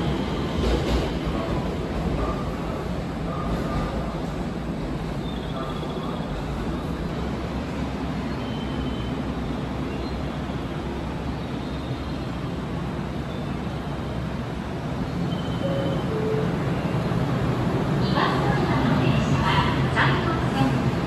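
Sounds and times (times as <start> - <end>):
station platform rumble: 0.0 - 21.0.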